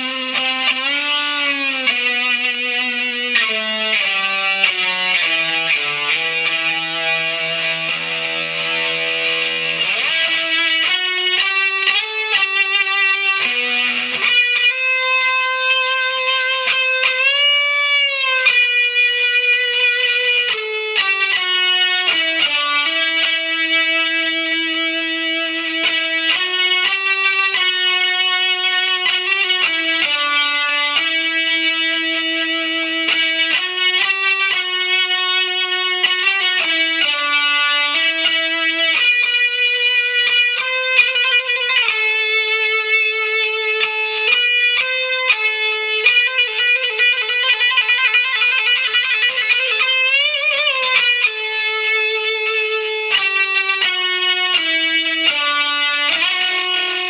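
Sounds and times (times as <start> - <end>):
electric guitar slow melody: 0.0 - 57.0.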